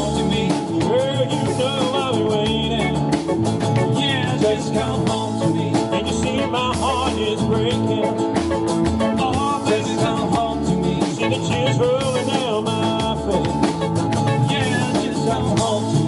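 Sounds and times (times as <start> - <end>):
drum kit beat: 0.0 - 16.0
electric guitar: 0.0 - 16.0
strummed acoustic guitar: 0.0 - 16.0.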